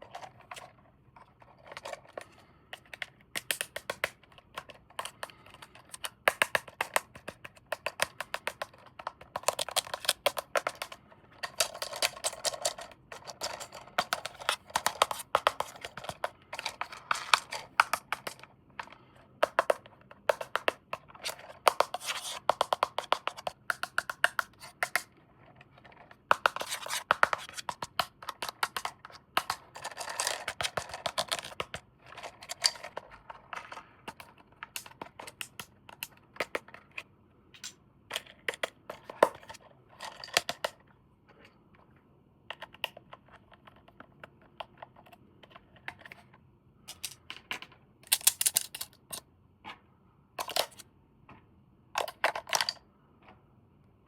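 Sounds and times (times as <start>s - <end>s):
plastic toys clicking and tapping: 0.0s - 25.1s, 25.7s - 40.9s, 42.4s - 49.2s, 50.4s - 50.8s, 52.0s - 52.8s.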